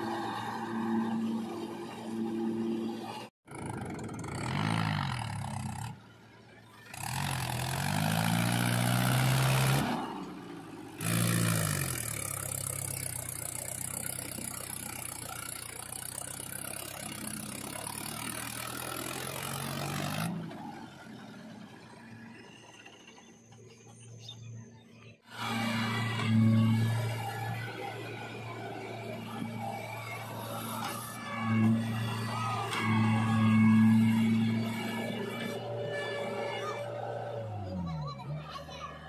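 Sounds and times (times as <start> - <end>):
tractor diesel engine labouring: 0.0 - 39.0.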